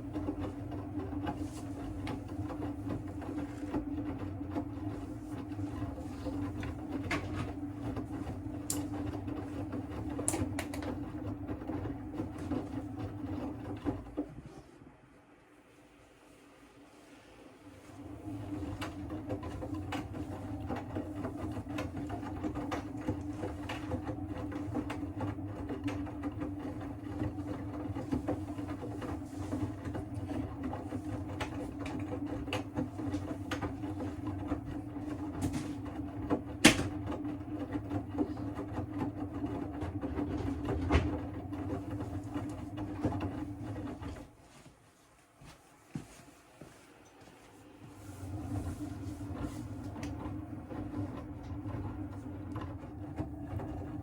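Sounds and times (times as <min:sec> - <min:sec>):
washing machine drum turning: 0:00.0 - 0:14.3, 0:18.3 - 0:44.3, 0:48.1 - 0:54.0.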